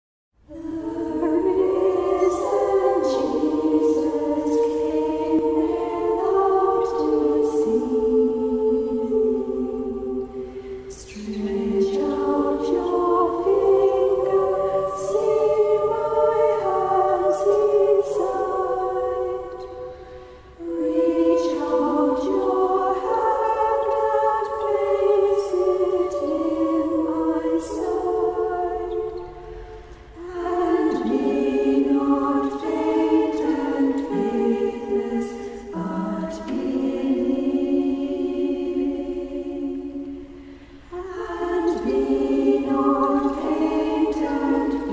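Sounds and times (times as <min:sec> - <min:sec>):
choir singing unaccompanied: 0:00.5 - 0:44.9.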